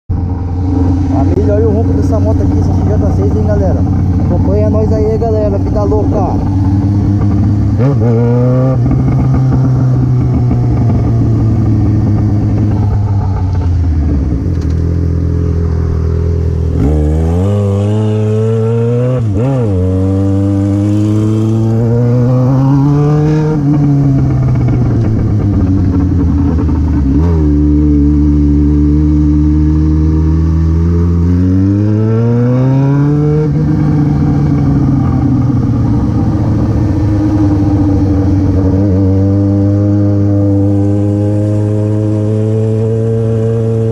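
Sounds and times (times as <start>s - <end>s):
motorcycle engine revving: 0.1s - 43.9s.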